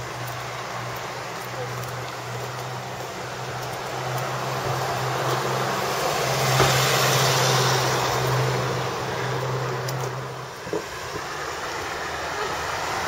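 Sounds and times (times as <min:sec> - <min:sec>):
road hiss: 0:00.0 - 0:13.0
vehicle engine running: 0:00.0 - 0:13.0.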